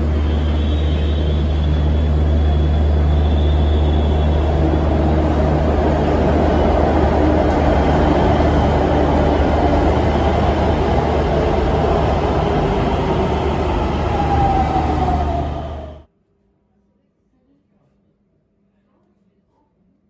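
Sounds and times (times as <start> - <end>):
falling whine of train: 0.0 - 16.1
train wheels rumbling on rail: 0.0 - 16.1.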